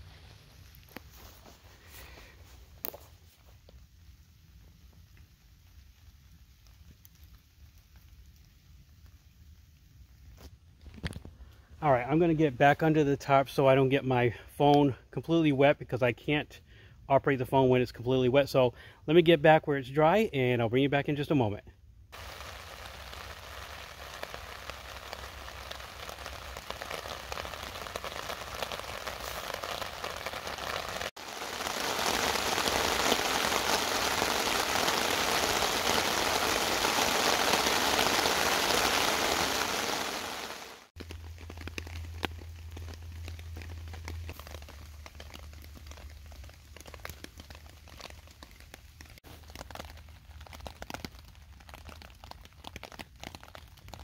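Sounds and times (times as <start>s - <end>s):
rain on tent fabric: 0.0s - 12.9s, 22.1s - 54.0s.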